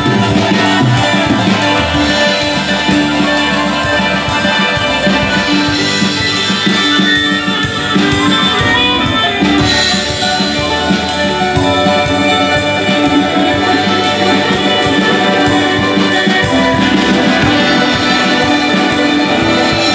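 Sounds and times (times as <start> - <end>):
drums: 0.0 - 19.9
electric guitar: 0.0 - 19.9
keyboard: 0.0 - 19.9
saxophone: 0.0 - 19.9.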